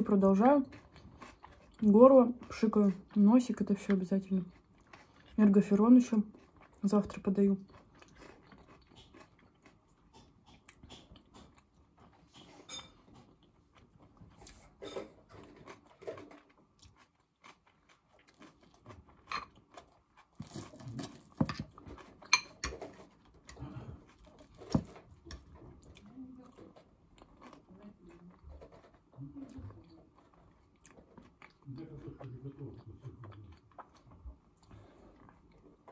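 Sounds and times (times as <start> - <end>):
person chewing crunchy salad: 0.4 - 5.4, 6.2 - 35.9.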